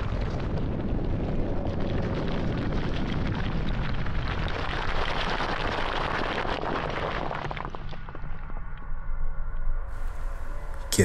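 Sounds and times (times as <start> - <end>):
explosion rumble with crackling: 0.0 - 8.8.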